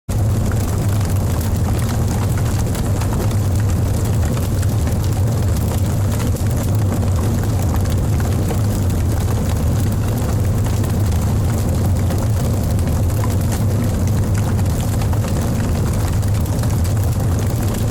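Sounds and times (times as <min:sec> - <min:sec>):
wood fire crackling: 0:00.1 - 0:17.9.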